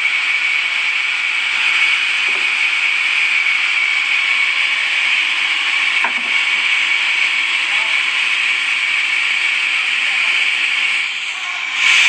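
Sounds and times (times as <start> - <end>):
saw blade cutting wood: 0.0 - 12.0.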